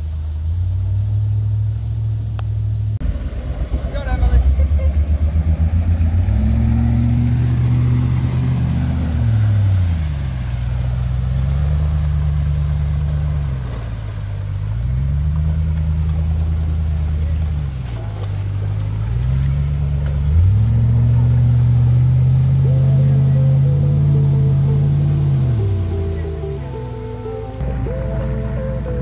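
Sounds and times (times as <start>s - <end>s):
car engine revving in mud: 0.0s - 29.0s.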